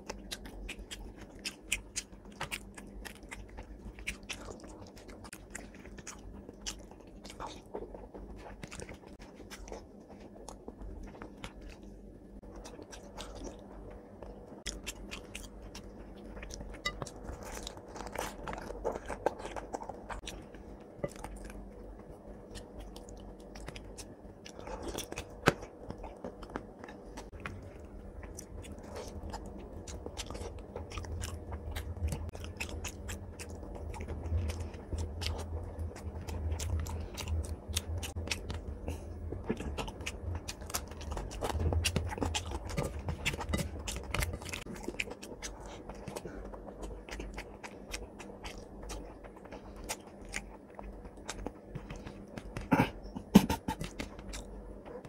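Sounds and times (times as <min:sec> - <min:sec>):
man chewing and lip-smacking: 0:00.0 - 0:55.0.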